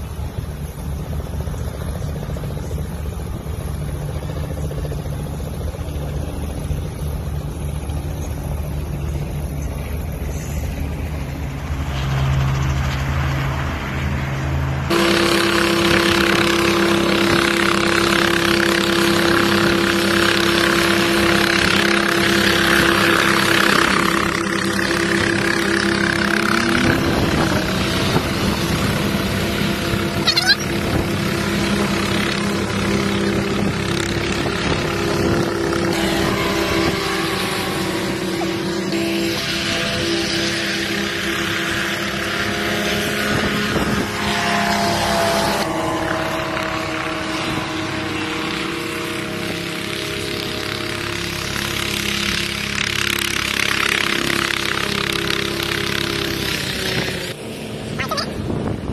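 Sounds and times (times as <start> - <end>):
helicopter engine and rotor: 0.0 - 58.9.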